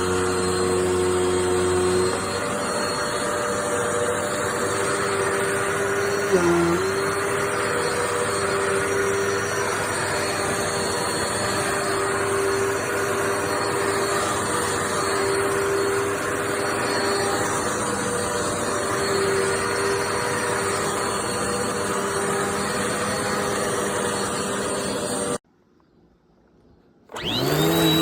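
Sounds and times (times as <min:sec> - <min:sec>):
vacuum cleaner motor humming: 0:00.0 - 0:25.4, 0:27.1 - 0:28.0.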